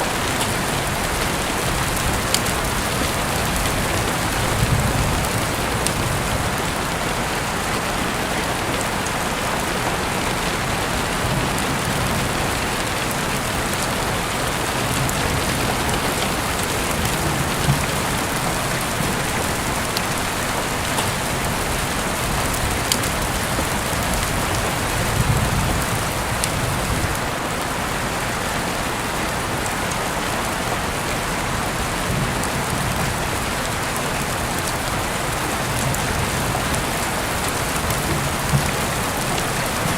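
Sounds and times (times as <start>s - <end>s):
heavy rain falling: 0.0s - 39.9s
raindrops striking close by: 0.0s - 39.9s.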